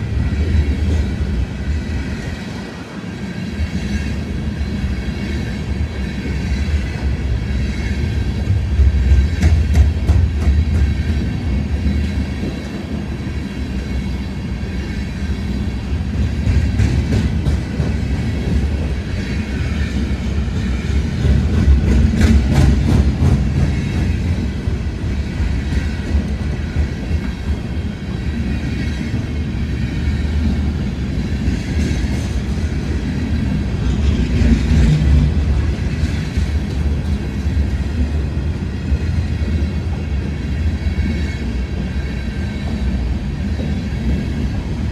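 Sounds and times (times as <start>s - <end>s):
train rumbling on tracks: 0.0s - 44.9s.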